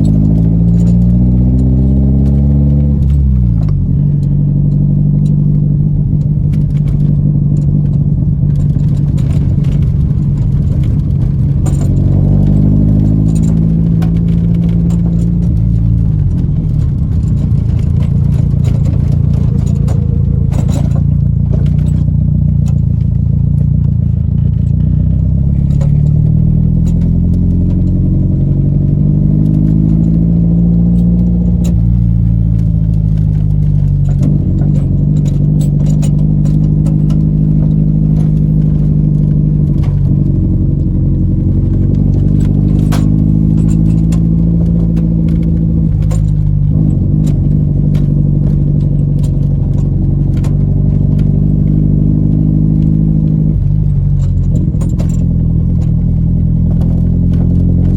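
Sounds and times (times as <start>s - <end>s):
car engine running: 0.0s - 57.9s
loose items rattling: 0.0s - 57.9s.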